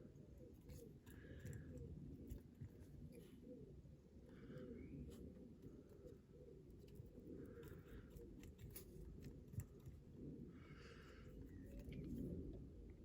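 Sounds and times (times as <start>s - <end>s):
low room hum: 0.0s - 13.0s
soft handling noises: 0.0s - 13.0s.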